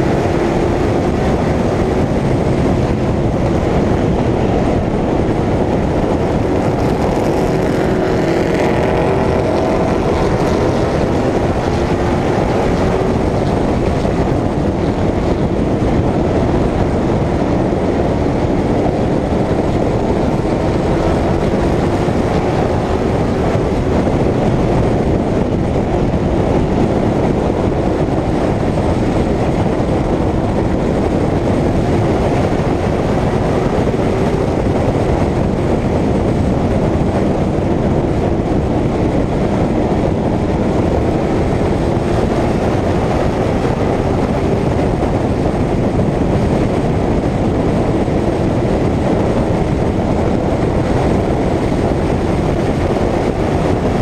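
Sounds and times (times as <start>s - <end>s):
race car engine roaring: 0.0s - 54.0s
wind rush on microphone: 0.0s - 54.0s.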